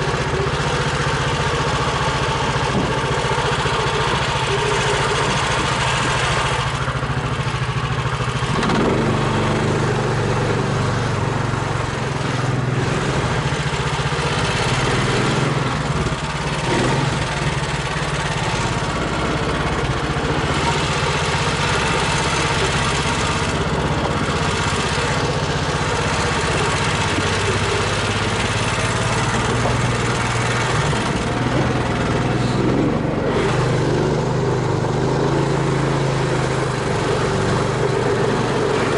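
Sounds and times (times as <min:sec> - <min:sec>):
all-terrain vehicle engine running: 0:00.0 - 0:38.9.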